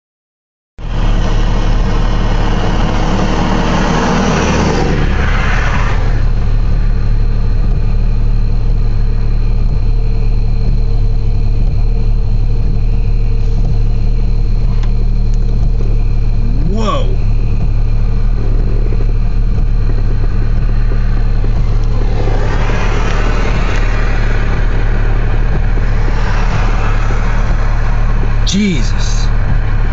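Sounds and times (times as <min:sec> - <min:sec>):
loud low hum: 0:00.8 - 0:29.9.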